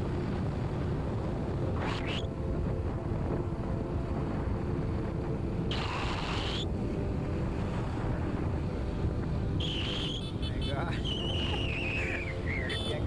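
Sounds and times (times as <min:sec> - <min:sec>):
vehicle rumble: 0:00.0 - 0:13.0
wind on microphone: 0:00.0 - 0:13.0.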